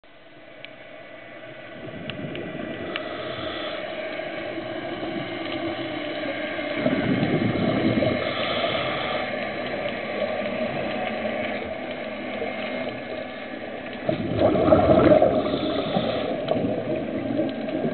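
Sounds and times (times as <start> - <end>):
regulator bubbles gurgling underwater: 1.4 - 17.9
water rush: 1.4 - 17.9.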